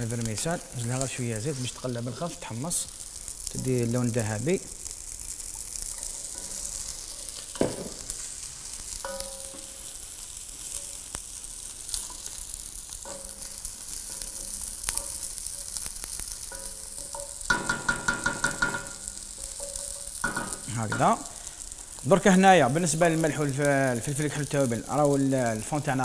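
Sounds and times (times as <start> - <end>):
noodles sizzling in hot oil: 0.0 - 26.0.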